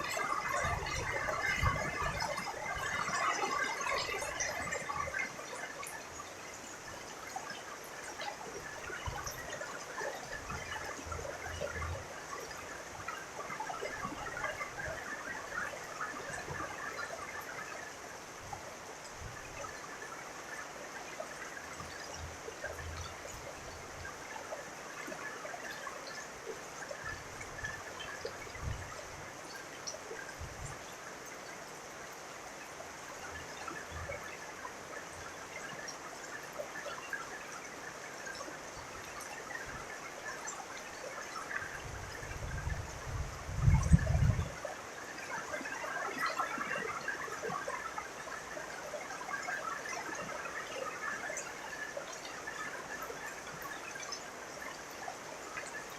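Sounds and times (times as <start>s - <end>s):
trickling runoff water: 0.0s - 55.9s.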